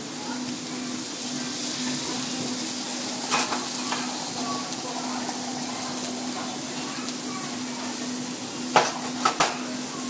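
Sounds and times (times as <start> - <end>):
seafood sizzling on a griddle: 0.0 - 10.0.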